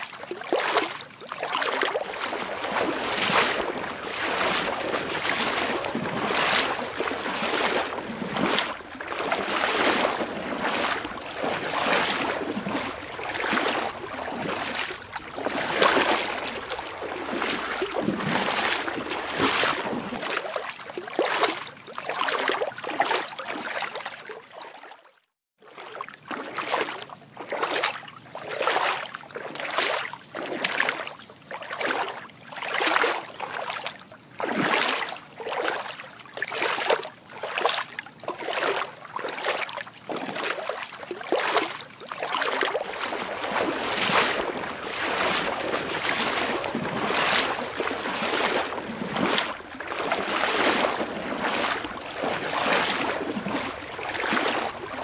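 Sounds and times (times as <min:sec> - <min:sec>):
water sloshing and lapping: 0:00.0 - 0:55.0.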